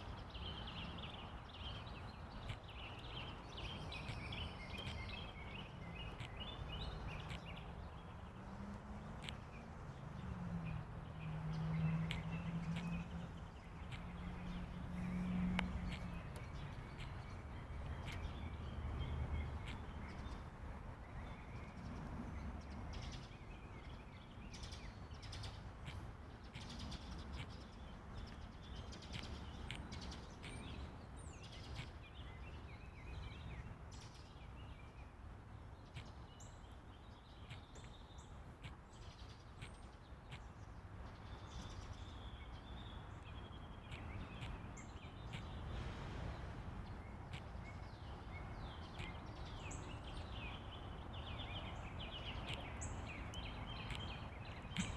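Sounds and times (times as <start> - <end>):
mockingbirds singing: 0.0 - 54.9.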